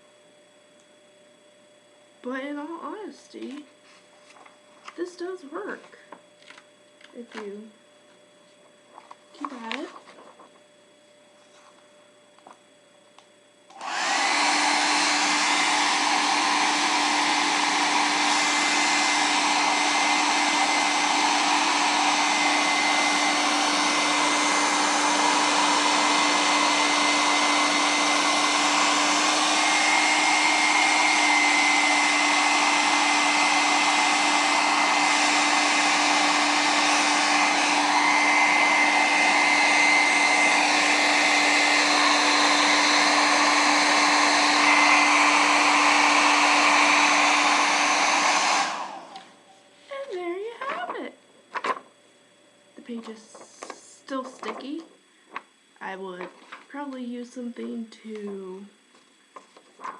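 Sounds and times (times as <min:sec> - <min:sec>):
hair dryer blowing: 0:00.0 - 0:07.8, 0:08.6 - 0:10.0, 0:13.2 - 0:51.7, 0:52.3 - 0:59.9.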